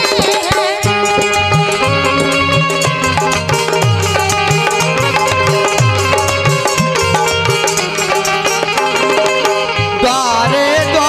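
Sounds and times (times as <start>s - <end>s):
hand drum played fast: 0.0s - 11.0s
held-note melody: 0.0s - 11.0s.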